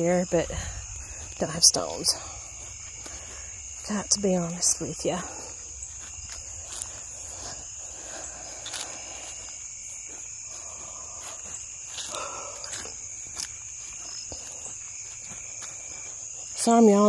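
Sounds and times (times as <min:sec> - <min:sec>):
footsteps on grass: 0:00.0 - 0:17.0
insects trilling: 0:00.0 - 0:17.0.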